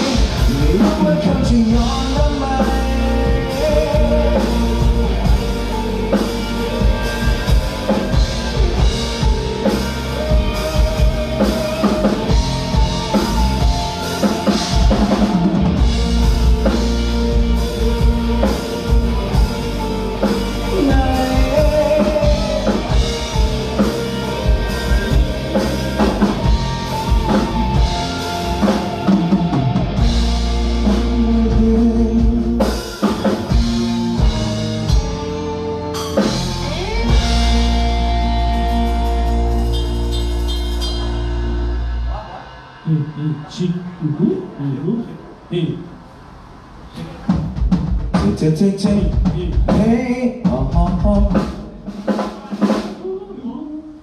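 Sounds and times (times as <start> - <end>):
live rock band playing: 0.0 - 44.6, 47.2 - 53.4
drum kit: 0.0 - 45.5, 46.9 - 54.0.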